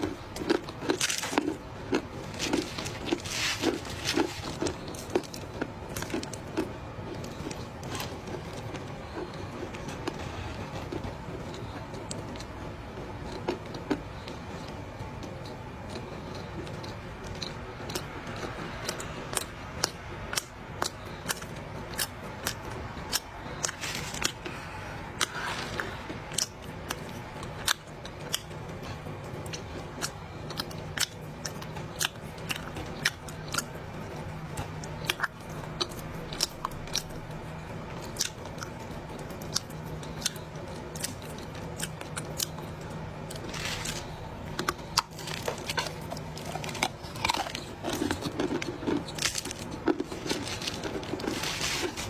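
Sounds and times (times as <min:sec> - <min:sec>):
dry clay being chewed: 0:00.0 - 0:52.0.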